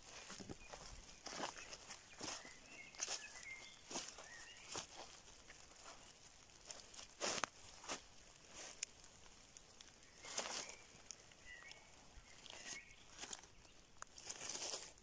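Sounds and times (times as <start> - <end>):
footsteps crunching dry leaves: 0.0 - 15.0
leaf litter rustling by hand: 0.0 - 15.0.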